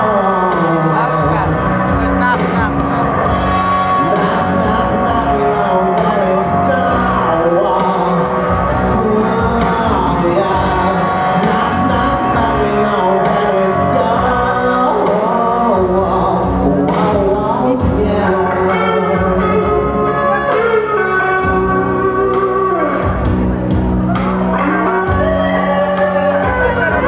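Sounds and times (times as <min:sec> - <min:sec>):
man singing into microphone: 0:00.0 - 0:23.1, 0:24.6 - 0:27.0
backing track with steady beat: 0:00.0 - 0:27.0.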